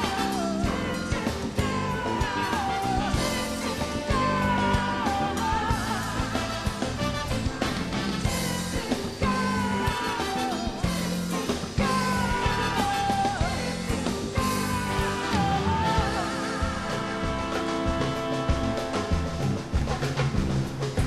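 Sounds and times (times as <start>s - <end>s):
woman singing: 0.0s - 7.7s, 8.3s - 19.1s
live band music: 0.0s - 21.0s.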